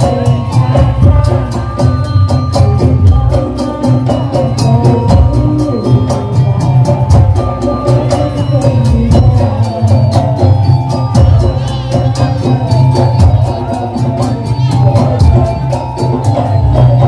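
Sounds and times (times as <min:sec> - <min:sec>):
percussion ensemble playing: 0:00.0 - 0:17.0.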